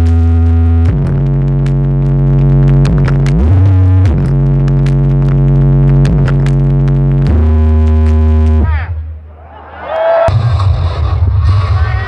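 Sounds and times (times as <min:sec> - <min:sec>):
loud distorted electronic music: 0:00.0 - 0:09.3, 0:10.3 - 0:12.0.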